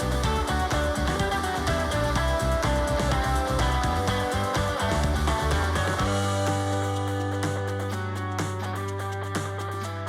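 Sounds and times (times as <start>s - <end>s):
rock music with guitar: 0.0s - 10.0s.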